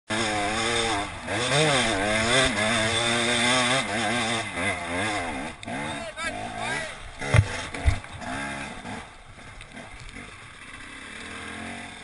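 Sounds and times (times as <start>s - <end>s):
motorcycle engine revving under load: 0.1s - 12.0s.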